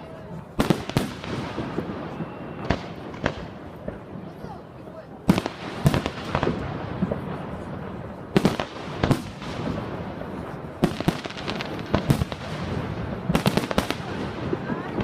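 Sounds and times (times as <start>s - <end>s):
fireworks crackling: 0.0s - 15.0s
fireworks bursting with sharp bangs: 0.1s - 15.0s.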